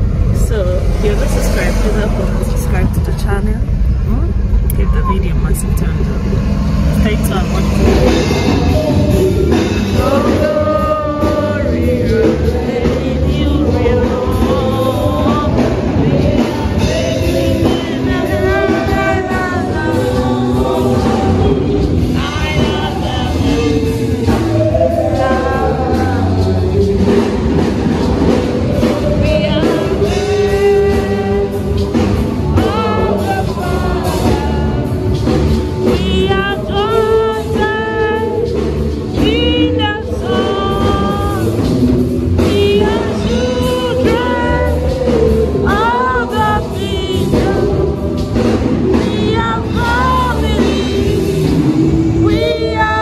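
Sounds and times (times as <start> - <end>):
congregation singing: 0.0 - 3.9, 4.6 - 53.0
band instrumental backing: 0.0 - 53.0.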